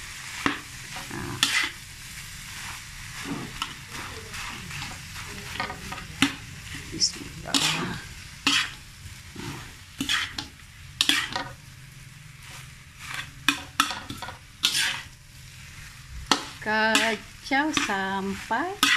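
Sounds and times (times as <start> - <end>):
rice sizzling: 0.0 - 18.9
spatula scraping metal wok: 0.2 - 18.9.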